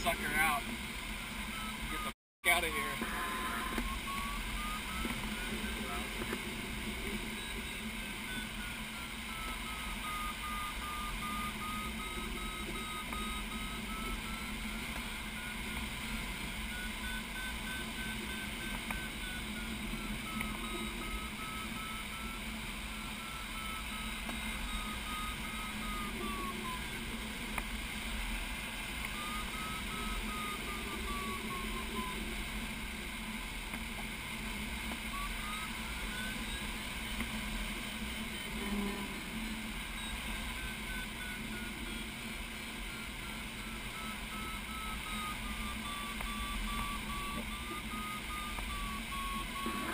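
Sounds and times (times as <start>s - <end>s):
variometer beeping tone: 0.0s - 49.9s.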